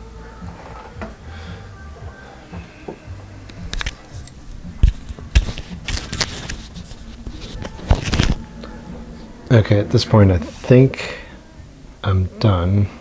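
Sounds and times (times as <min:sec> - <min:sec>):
wires and tape rustling: 0:00.0 - 0:12.6.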